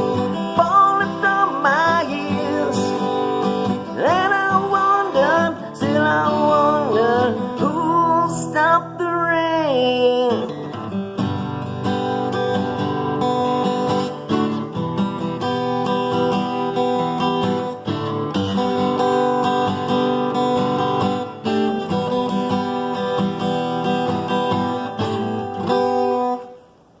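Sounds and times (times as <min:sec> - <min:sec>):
guitar strumming chords: 0:00.0 - 0:26.7.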